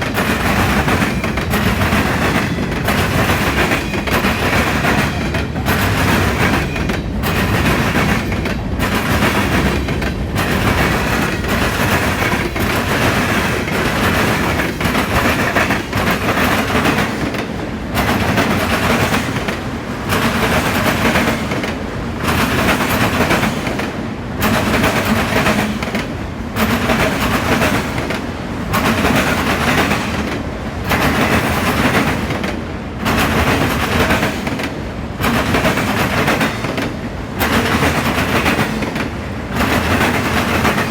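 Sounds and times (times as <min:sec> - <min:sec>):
freight train wheels over crossing: 0:00.0 - 0:40.9.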